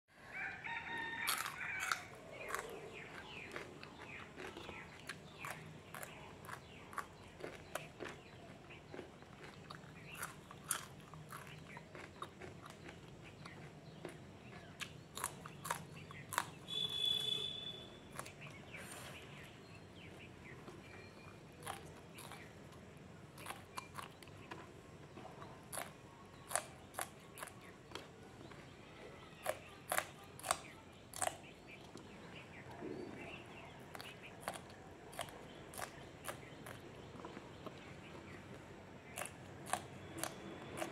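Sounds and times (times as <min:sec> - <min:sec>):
chewing: 0:00.6 - 0:17.5, 0:18.1 - 0:40.9
crunching raw chillies: 0:00.7 - 0:40.9.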